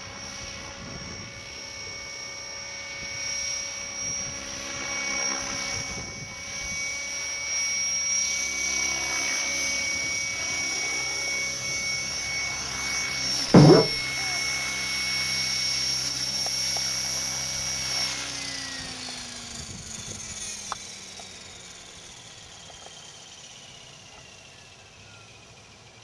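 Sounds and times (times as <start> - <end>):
model helicopter rotor whine: 0.0 - 26.0.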